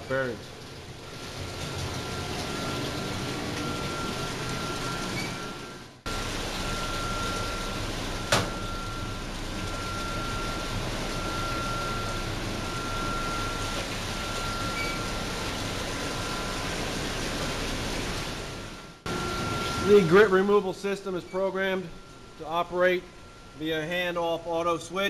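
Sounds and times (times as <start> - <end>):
machine hum with high whine: 0.0 - 25.0.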